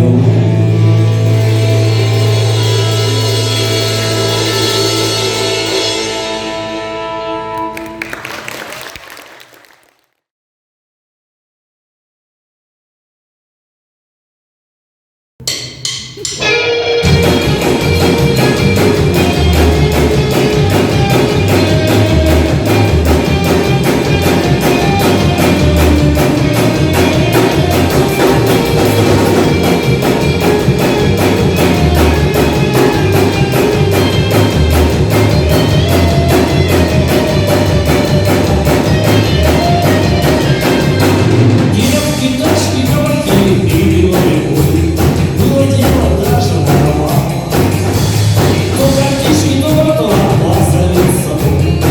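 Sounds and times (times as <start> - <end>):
drum kit beat: 0.0 - 6.1, 7.6 - 9.8, 15.4 - 51.9
live rock band playing: 0.0 - 9.8, 15.4 - 51.9.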